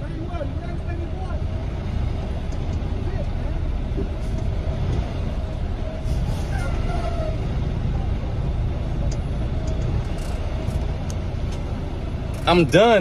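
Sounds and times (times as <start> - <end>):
road noise: 0.0 - 13.0
truck diesel engine rumble: 0.0 - 13.0.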